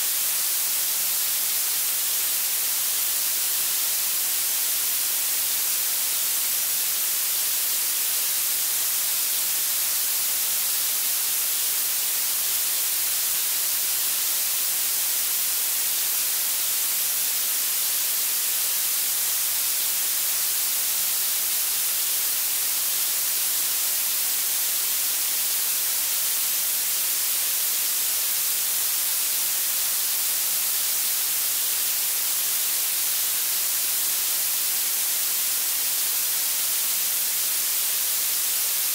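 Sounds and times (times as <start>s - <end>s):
bright blue noise hiss: 0.0s - 38.9s.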